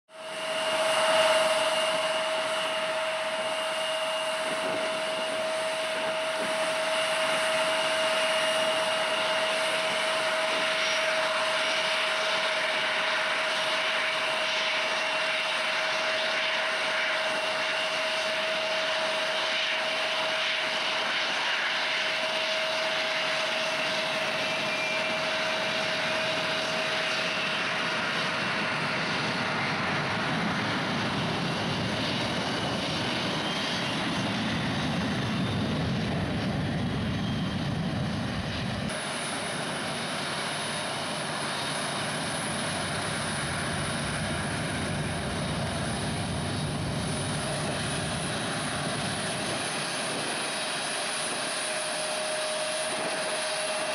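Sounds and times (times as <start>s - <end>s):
jet engines idling: 0.2s - 53.9s.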